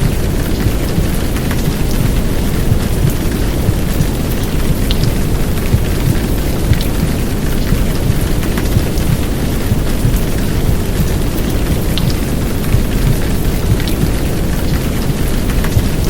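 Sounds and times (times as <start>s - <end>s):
downpour rain: 0.0s - 16.0s
patter of raindrops: 0.0s - 16.0s
simulated womb sound: 0.0s - 16.0s.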